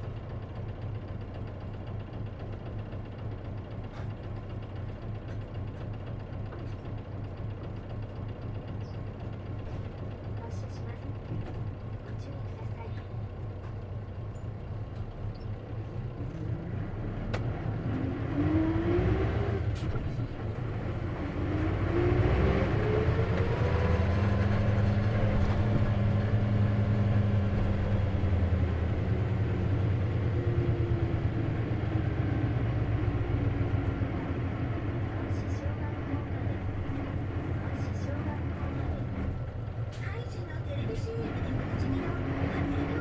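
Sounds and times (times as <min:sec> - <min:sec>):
bus engine accelerating: 0:00.0 - 0:43.0.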